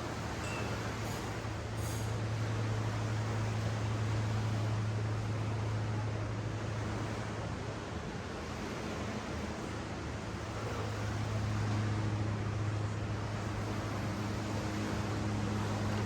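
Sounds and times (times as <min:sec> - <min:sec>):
low mechanical hum: 0:00.0 - 0:16.0
ocean surf: 0:00.0 - 0:16.0.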